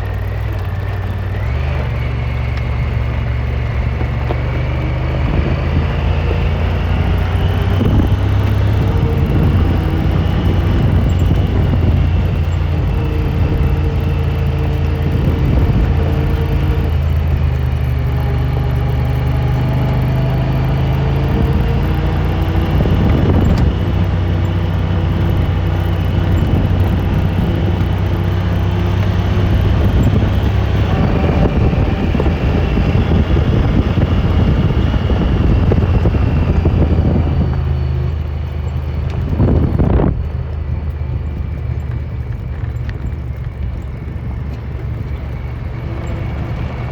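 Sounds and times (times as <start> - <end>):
utility vehicle engine running: 0.0 - 46.9.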